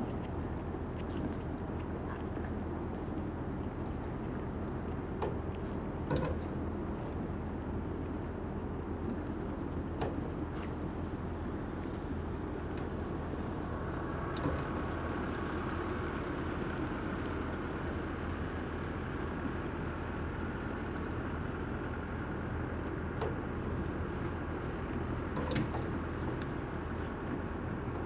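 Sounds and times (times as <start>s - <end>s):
low harbour rumble: 0.0s - 28.0s.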